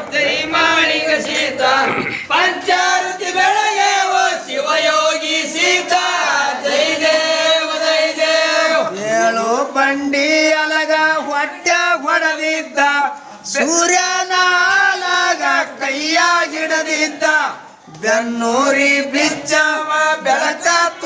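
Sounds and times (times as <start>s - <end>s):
men singing devotional chant: 0.0s - 21.0s.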